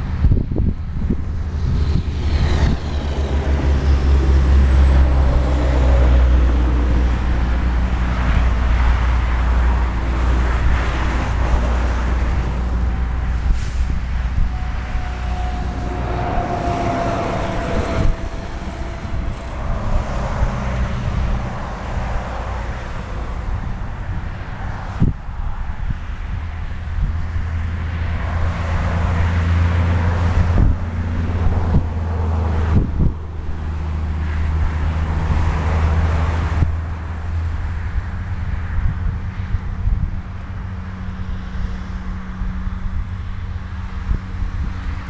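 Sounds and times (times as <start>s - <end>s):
diesel locomotive engine rumble: 0.0s - 45.0s.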